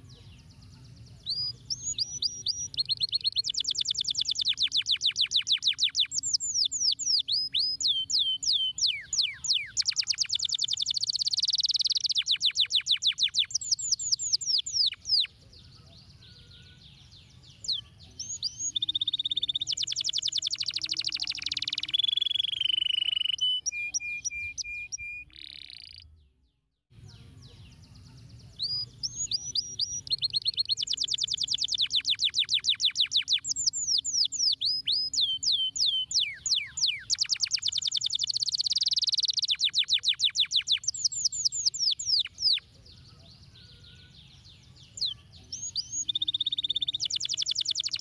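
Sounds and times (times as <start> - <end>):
canary singing: 0.0 - 26.2, 27.2 - 48.0.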